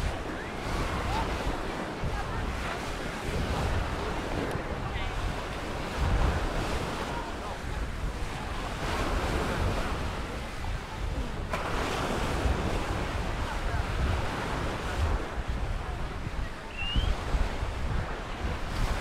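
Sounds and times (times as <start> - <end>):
surf washing onto sand: 0.0 - 19.0
wind buffeting microphone: 0.0 - 19.0.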